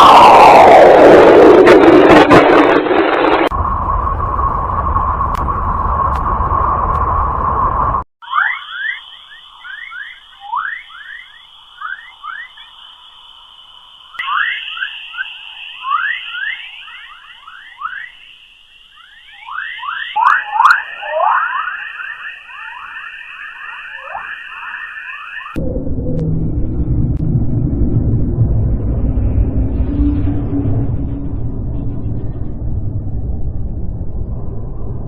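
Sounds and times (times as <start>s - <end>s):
steady high hum: 3.5s - 35.0s.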